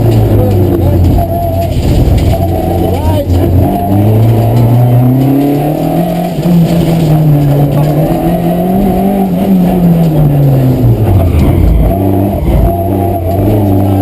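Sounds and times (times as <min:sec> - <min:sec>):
rally car engine under load: 0:00.0 - 0:14.0.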